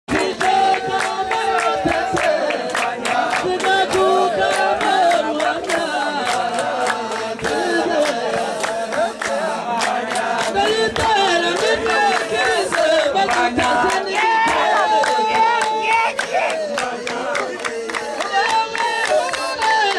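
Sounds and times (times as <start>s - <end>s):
group of voices singing and chanting: 0.1s - 19.9s
sharp hand claps: 0.1s - 19.9s.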